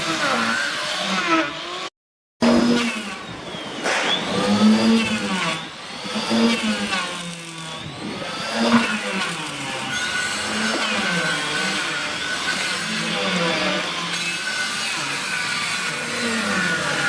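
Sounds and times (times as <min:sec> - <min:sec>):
small motor running: 0:00.0 - 0:17.0.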